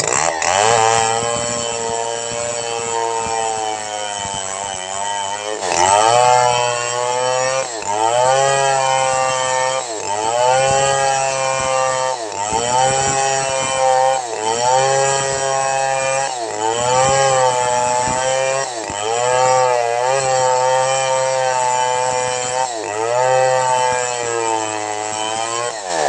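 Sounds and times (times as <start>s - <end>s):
chainsaw cutting log: 0.0s - 26.0s.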